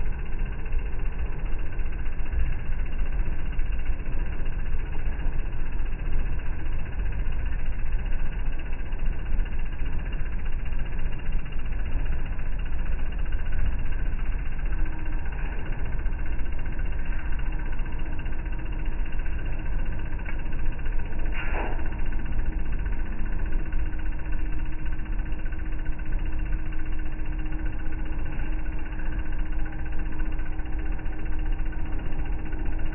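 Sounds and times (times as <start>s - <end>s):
faint constant hum: 0.0s - 32.9s
washing machine running: 0.1s - 32.9s.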